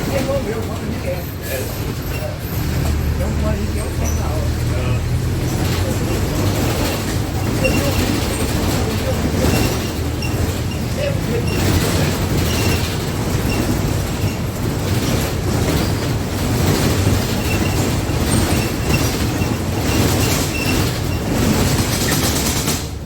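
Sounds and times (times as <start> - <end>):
bus engine and road drone: 0.0 - 23.0
faint squeaks from bus body: 0.2 - 14.6, 17.2 - 22.6
floor panels rattling: 2.9 - 23.0.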